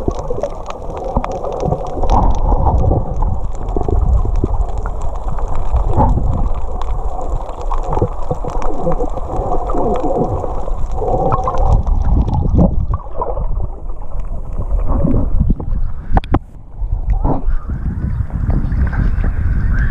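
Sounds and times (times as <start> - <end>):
muffled water gurgling and sloshing: 0.0 - 19.9.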